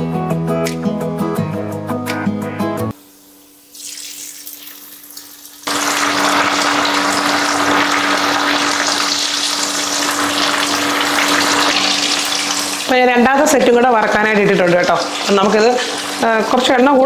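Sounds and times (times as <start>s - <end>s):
fish deep-frying in sizzling oil: 2.9s - 17.0s.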